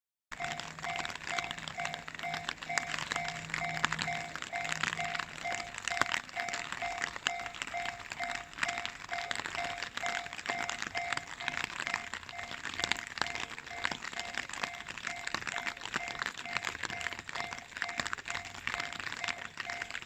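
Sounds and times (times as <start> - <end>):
dense crackling noise: 0.3 - 20.0
level-crossing warning bell: 0.3 - 20.0.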